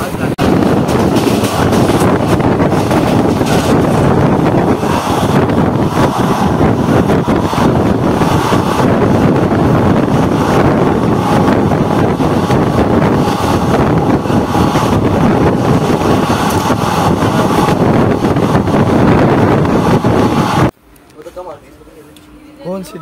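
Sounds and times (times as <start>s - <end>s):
wind buffeting microphone: 0.0s - 20.7s
train wheels running on rails: 0.0s - 21.5s.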